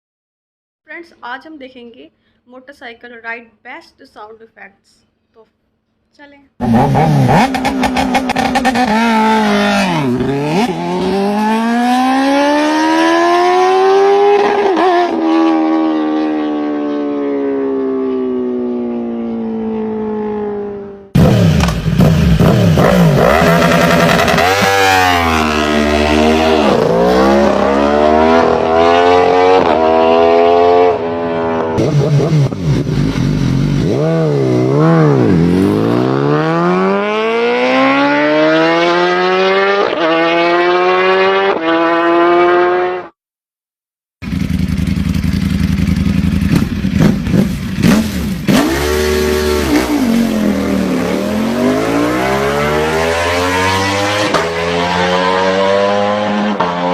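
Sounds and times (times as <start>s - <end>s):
motorcycle engine revving: 6.6s - 43.2s, 44.2s - 56.9s.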